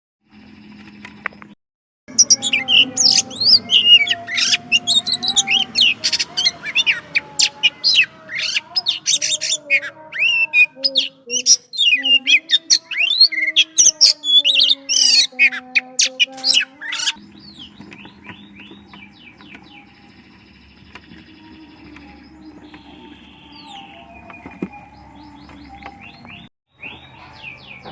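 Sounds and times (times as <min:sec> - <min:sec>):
bird singing whistles and chirps: 0:02.1 - 0:27.9
faint bird chirping: 0:02.1 - 0:27.9.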